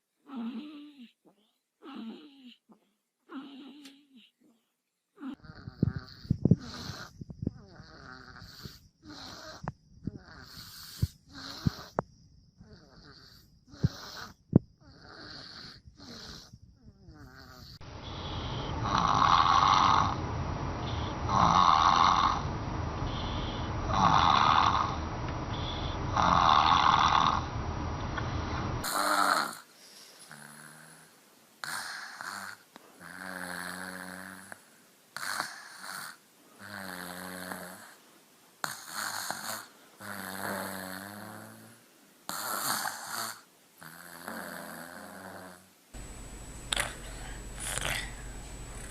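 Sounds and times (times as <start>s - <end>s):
babies snoring: 0.2s - 12.0s, 12.6s - 27.6s, 28.8s - 38.0s, 38.6s - 45.7s, 46.6s - 48.9s.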